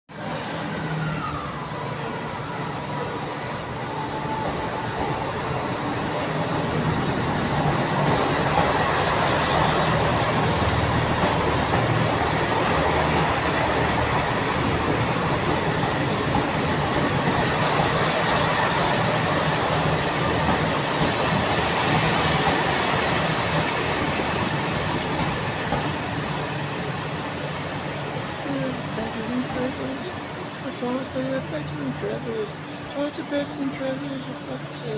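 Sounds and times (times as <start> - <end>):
diesel train engine drone: 0.1 - 34.9
wheel and rail noise: 0.2 - 34.9.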